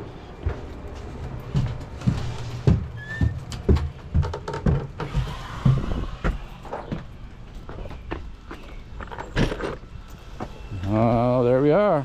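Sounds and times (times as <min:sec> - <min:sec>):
footsteps walking: 0:00.0 - 0:10.7.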